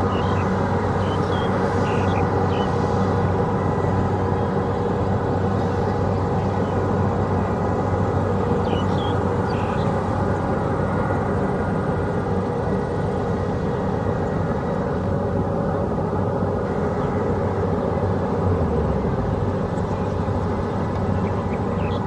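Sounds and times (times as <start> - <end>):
combine harvester diesel engine: 0.0 - 22.0.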